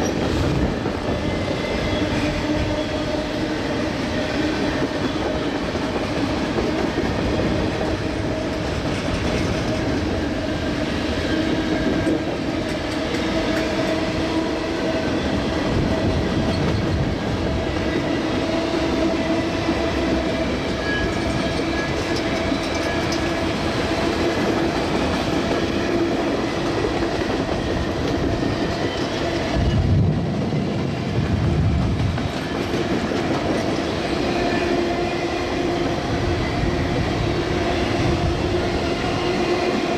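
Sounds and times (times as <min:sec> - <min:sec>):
diesel locomotive engine drone: 0:00.0 - 0:39.9
train cars rolling: 0:00.0 - 0:39.9.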